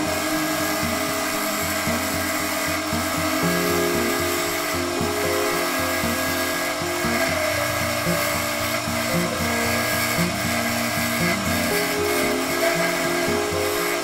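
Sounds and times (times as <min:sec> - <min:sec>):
background music with beat: 0:00.0 - 0:14.0
chisel cutting wood on lathe: 0:00.0 - 0:14.0.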